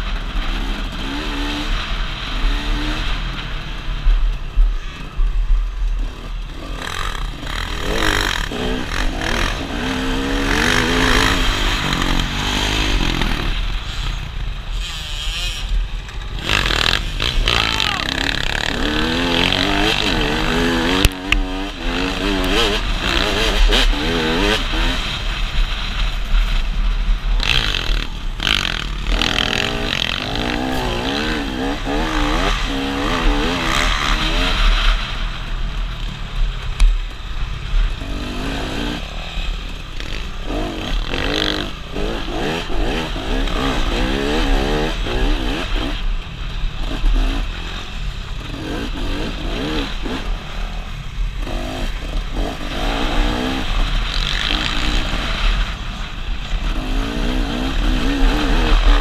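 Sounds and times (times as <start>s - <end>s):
dirt bike engine revving: 0.0s - 3.7s, 4.7s - 36.7s, 37.4s - 59.0s.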